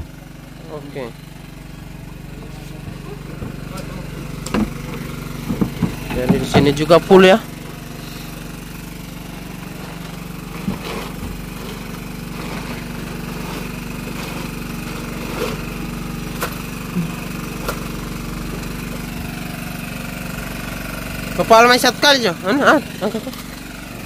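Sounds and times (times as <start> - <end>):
boat engine idling: 0.0 - 24.0.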